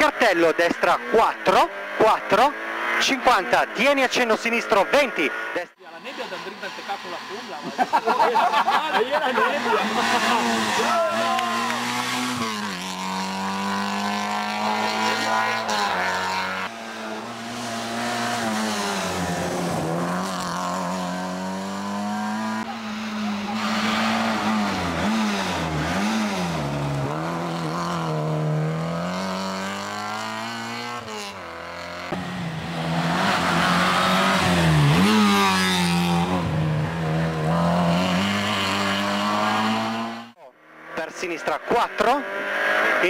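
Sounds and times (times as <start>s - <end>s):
rally car engine revving: 0.0s - 43.0s.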